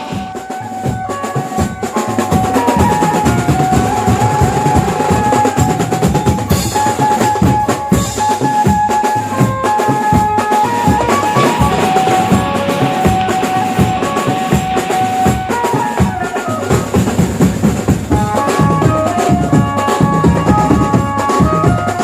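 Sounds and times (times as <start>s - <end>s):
band with busy drumming: 0.0s - 22.0s
held melody notes: 0.0s - 22.0s.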